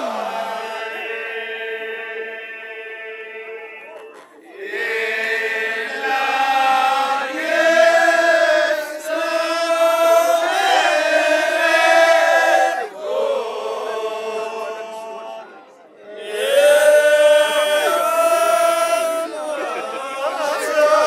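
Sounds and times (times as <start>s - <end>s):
male chorus chanting in unison: 0.0s - 21.0s.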